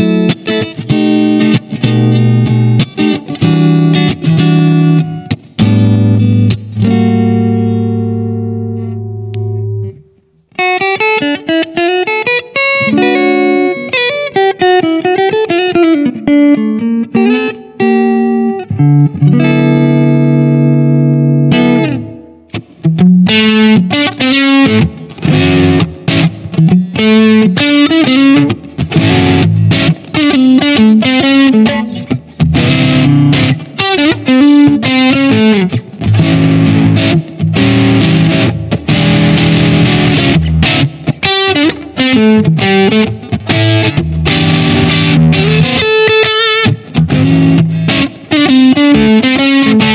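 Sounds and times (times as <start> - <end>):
electric guitar through amp: 0.0 - 49.9.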